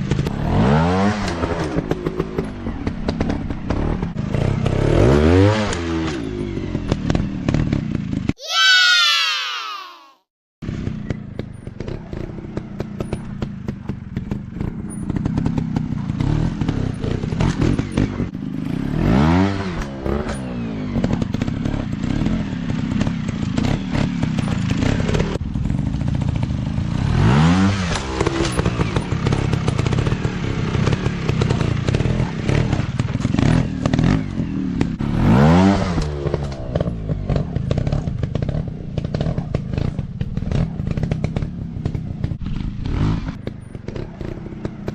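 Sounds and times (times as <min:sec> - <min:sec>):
dirt bike engine revving: 0:00.1 - 0:09.2, 0:11.8 - 0:44.9.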